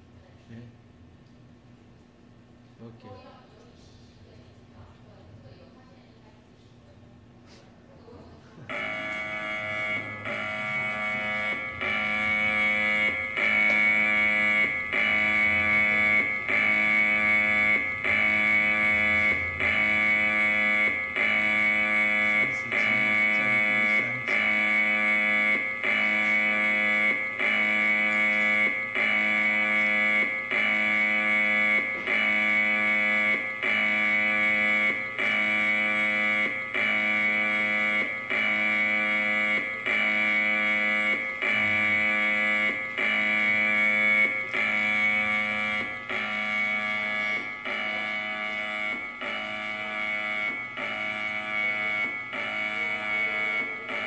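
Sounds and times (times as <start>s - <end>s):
harsh buzzing alarm tone: 8.6s - 54.0s.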